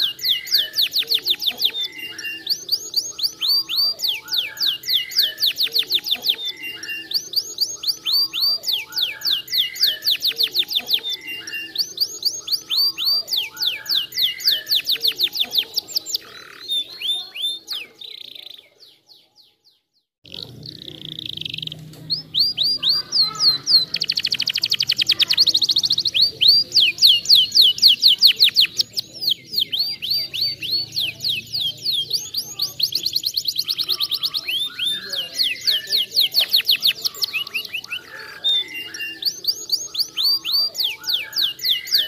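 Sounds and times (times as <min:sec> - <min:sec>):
canary singing trills: 0:00.0 - 0:42.0.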